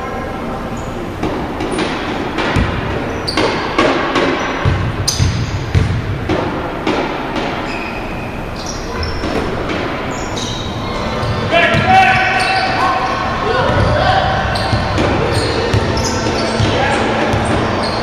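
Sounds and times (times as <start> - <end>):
sneakers squeaking: 0.0 - 18.0.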